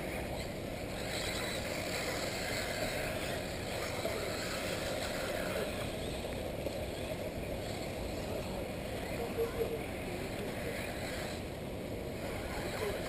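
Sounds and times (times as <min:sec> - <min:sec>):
electric toy cars whining: 0:00.0 - 0:13.0.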